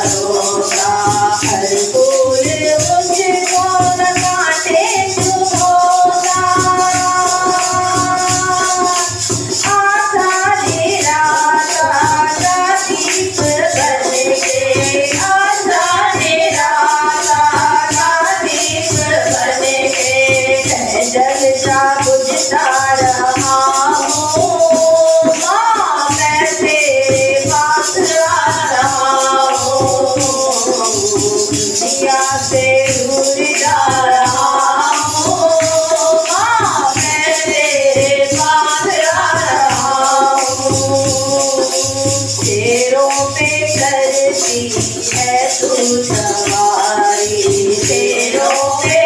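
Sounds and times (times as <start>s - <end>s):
hand drum beat: 0.0s - 49.0s
jingle rattle shaken: 0.0s - 49.0s
women singing devotional song: 0.0s - 49.0s.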